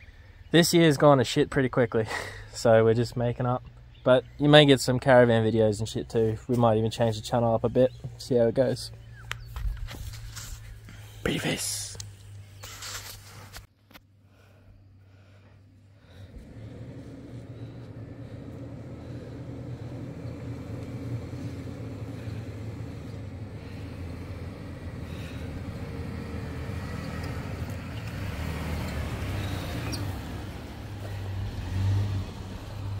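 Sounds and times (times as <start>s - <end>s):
vehicle engine climbing: 0.2s - 33.0s.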